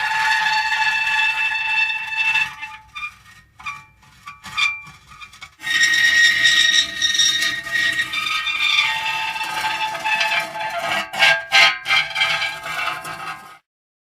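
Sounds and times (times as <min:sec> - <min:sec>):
metal creaking and squealing: 0:00.0 - 0:13.7.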